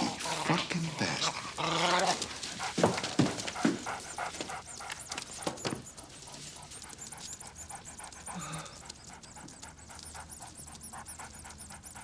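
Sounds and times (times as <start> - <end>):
dog panting: 0.1 - 12.0.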